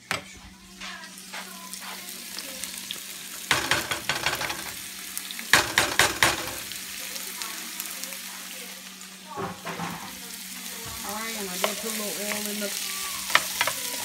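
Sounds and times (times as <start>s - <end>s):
vegetables sizzling in frying pan: 0.7s - 14.0s.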